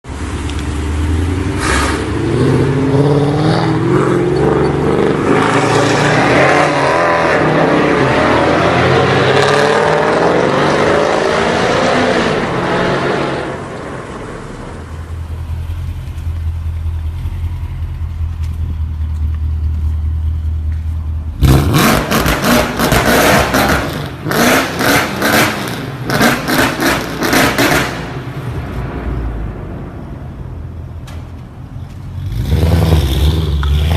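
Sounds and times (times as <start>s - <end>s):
car engine revving: 0.5s - 18.6s, 21.4s - 30.8s, 32.1s - 33.9s.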